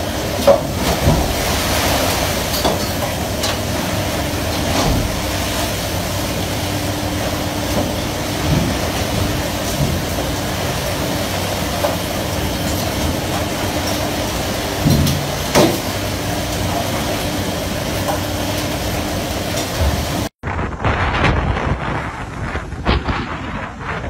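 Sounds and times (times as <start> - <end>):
boat engine drone: 0.0 - 20.8
wind: 0.0 - 24.0.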